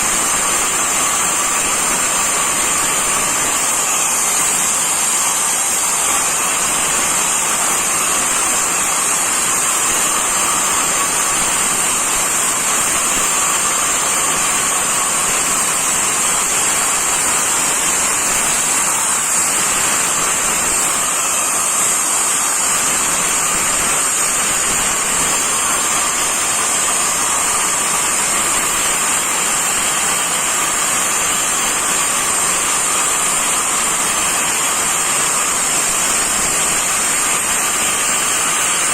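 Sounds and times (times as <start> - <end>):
angle grinder cutting masonry: 0.0 - 38.9.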